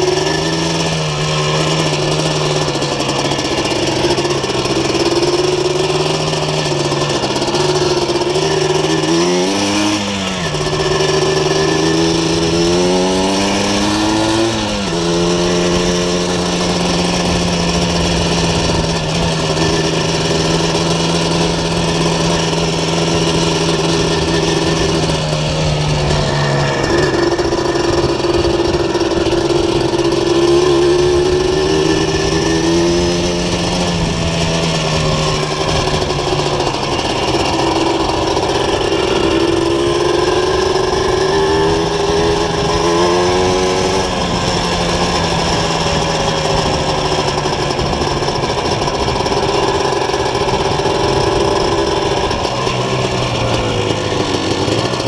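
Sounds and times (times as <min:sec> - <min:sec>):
two-stroke motorcycle engine: 0:00.0 - 0:55.0.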